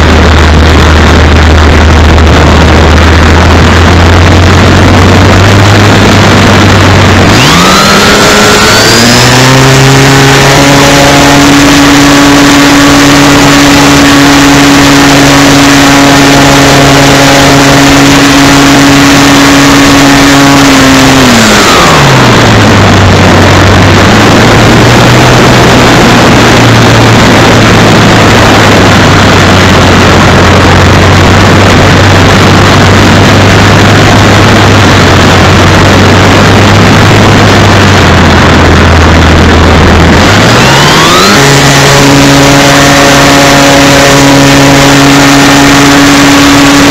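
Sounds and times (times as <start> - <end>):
model plane propeller motor: 0.0 - 46.9.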